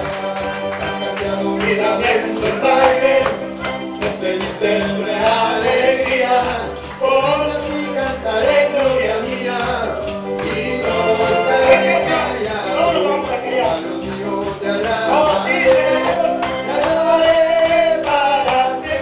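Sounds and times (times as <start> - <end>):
gospel band with singing: 0.0 - 19.0.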